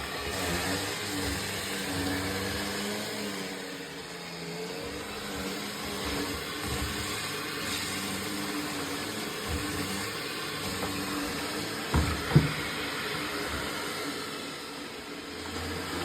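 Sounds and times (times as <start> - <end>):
robot vacuum motor hum: 0.0 - 16.0.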